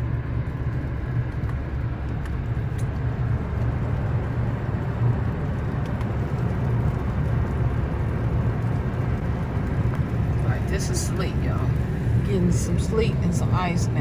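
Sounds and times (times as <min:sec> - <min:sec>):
car road noise from inside: 0:00.0 - 0:14.0.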